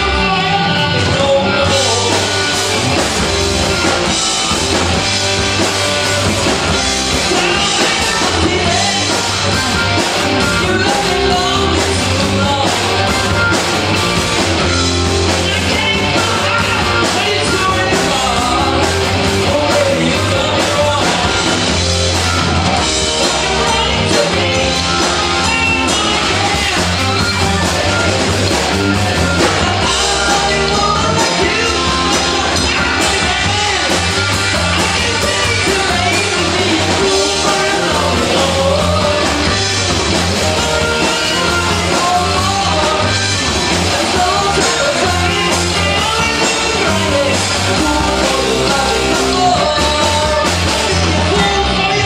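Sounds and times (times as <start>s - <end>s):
bass guitar: 0.0s - 52.0s
drums: 0.0s - 52.0s
electric guitar: 0.0s - 52.0s
keyboards: 0.0s - 52.0s
man singing: 0.0s - 52.0s.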